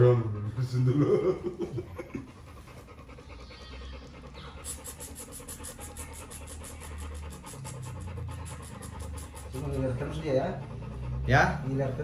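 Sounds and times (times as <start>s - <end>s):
dog panting quickly: 0.0s - 12.0s.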